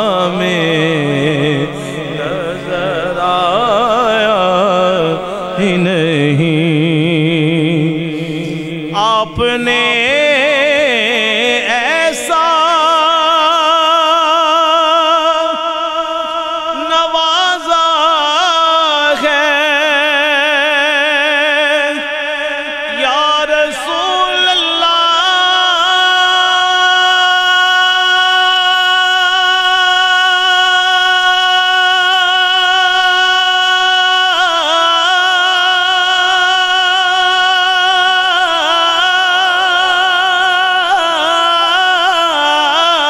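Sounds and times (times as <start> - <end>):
man singing with vibrato: 0.0 - 43.0.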